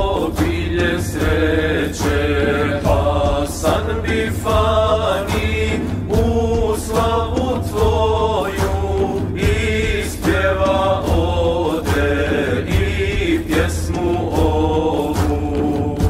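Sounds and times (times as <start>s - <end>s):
frame drum beat: 0.0s - 16.0s
male group singing in harmony: 0.0s - 16.0s.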